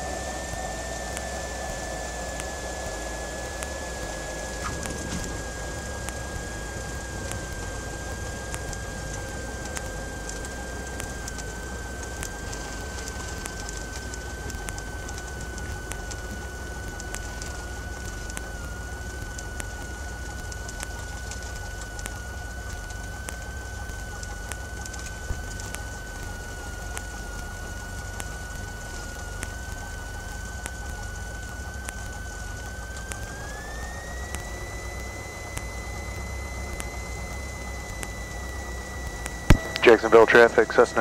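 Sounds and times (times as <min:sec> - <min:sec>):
aircraft engine drone: 0:00.0 - 0:41.0
high whine sinking in pitch: 0:00.0 - 0:41.0
faint clicks: 0:03.5 - 0:41.0.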